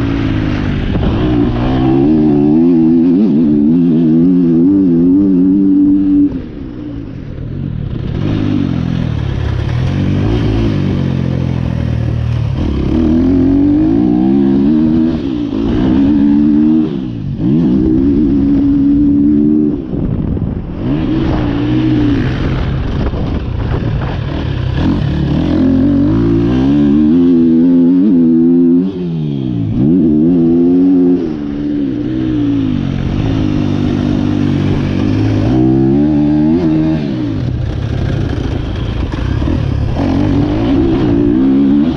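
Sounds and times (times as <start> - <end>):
motocross bike engine revving: 0.0 - 6.5, 7.9 - 41.9.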